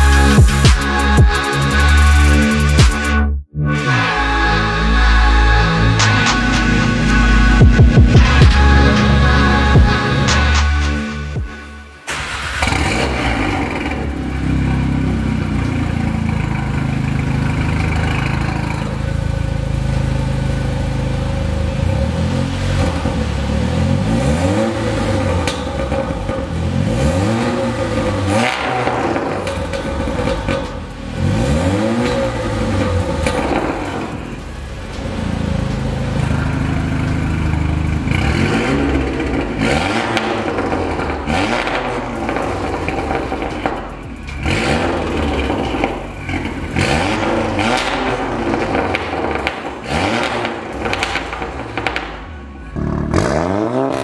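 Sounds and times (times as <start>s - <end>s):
car engine revving: 0.0s - 54.0s
car engine idling: 5.0s - 54.0s.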